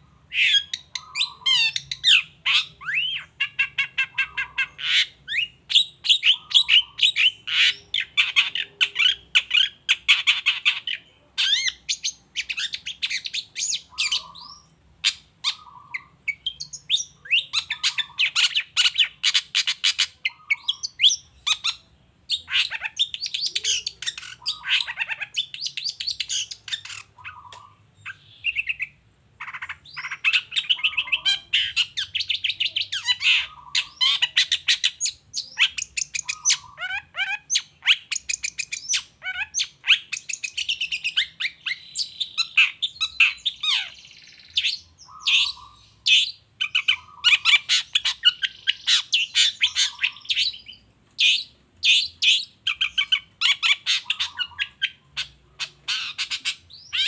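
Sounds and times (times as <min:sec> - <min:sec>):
bird singing rapid sharp notes: 0:00.0 - 0:57.0.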